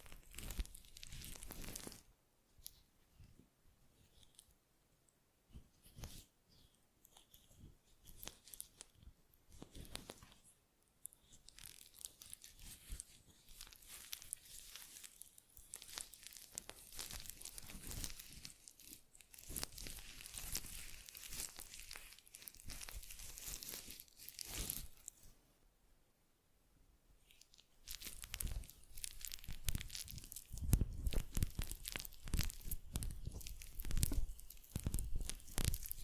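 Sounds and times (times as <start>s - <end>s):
close crinkling and crackling: 0.0s - 4.6s, 5.5s - 25.4s, 27.2s - 36.0s.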